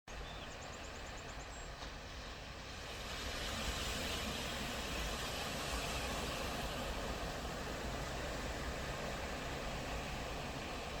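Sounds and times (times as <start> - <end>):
ocean surf washing onto beach: 1.0 - 11.0.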